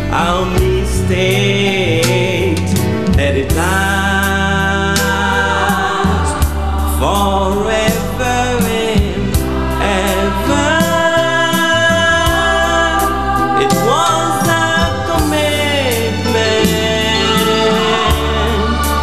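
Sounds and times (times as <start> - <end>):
bass line: 0.0 - 19.0
man singing long notes: 0.0 - 19.0.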